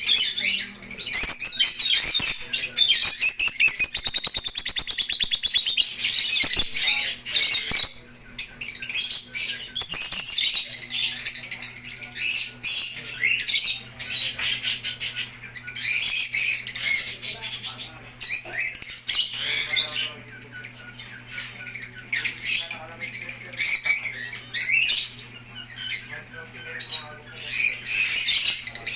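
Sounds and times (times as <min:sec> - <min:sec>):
parrots chirping: 0:00.0 - 0:28.9.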